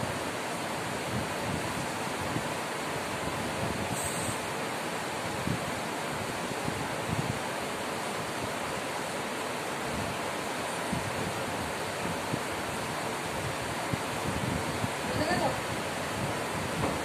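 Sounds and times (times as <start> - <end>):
air cooler fan hissing: 0.0 - 17.0.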